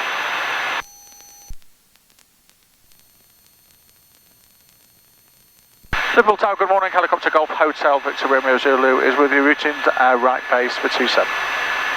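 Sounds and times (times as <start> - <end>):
radio static hiss: 0.0 - 11.9.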